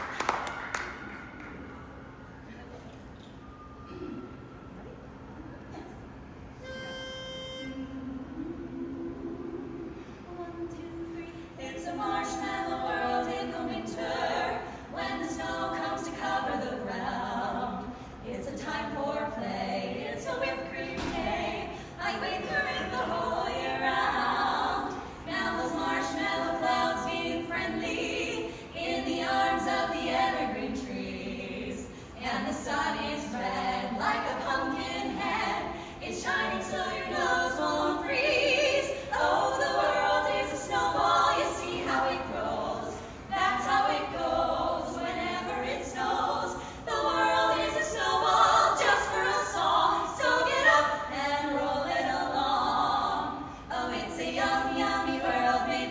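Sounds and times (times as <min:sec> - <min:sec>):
a cappella group singing: 0:06.6 - 0:55.9.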